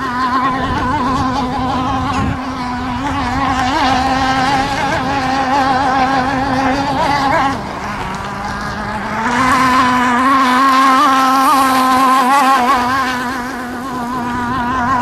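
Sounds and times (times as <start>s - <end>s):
speedboat engine whining: 0.0s - 15.0s.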